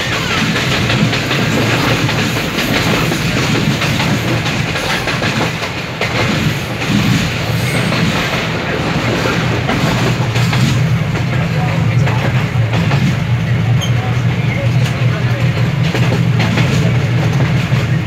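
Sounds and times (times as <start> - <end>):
clacks over rail joints: 0.0 - 18.0
train wheels rumbling: 0.0 - 18.0.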